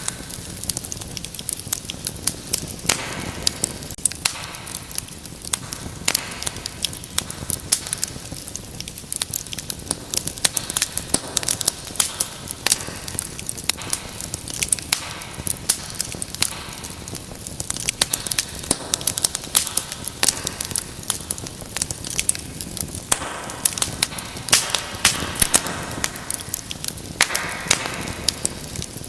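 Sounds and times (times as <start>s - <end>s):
low rumble of flames: 0.0s - 29.0s
wood fire crackling and popping: 0.0s - 29.0s.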